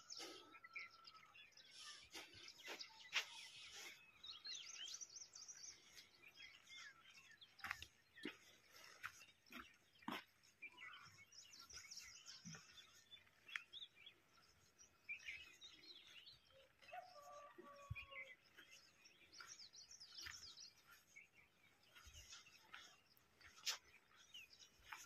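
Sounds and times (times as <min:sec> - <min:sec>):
faint small birds chirping: 0:00.0 - 0:25.0.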